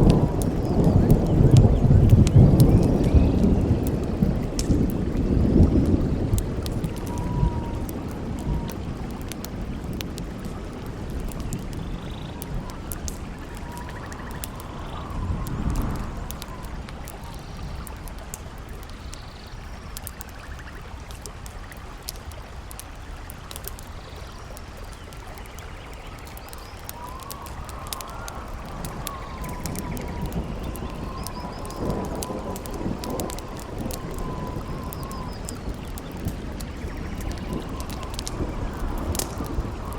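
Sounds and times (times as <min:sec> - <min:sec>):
campfire crackling: 0:00.0 - 0:39.9
howling wind: 0:00.0 - 0:39.9.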